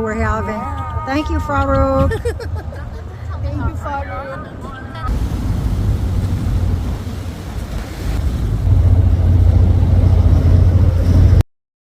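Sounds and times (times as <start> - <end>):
boat engine rumbling: 0.0 - 11.4
wind buffeting microphone: 0.0 - 11.4.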